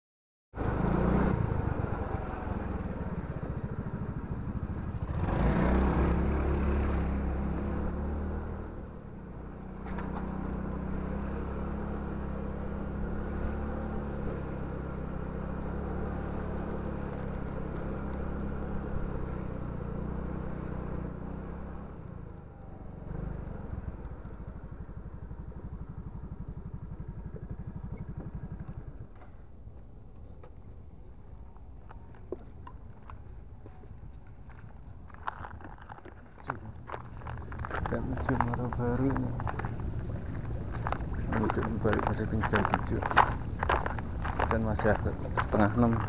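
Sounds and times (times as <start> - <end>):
motor scooter engine: 0.6 - 46.0.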